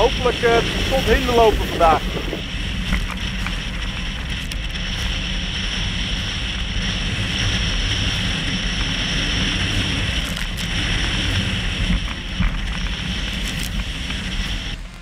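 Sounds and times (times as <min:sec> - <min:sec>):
sharp splashes of spray: 0:00.0 - 0:14.8
rushing water and spray: 0:00.0 - 0:15.0
strong wind buffeting microphone: 0:00.0 - 0:15.0.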